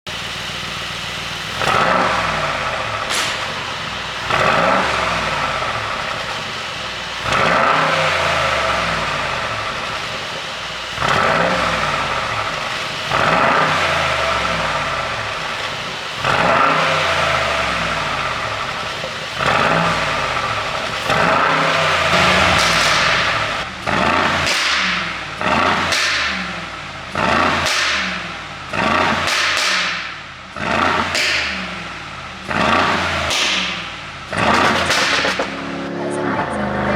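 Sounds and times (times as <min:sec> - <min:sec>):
car engine revving: 0:00.1 - 0:36.9
exhaust pops and crackles: 0:01.5 - 0:35.6.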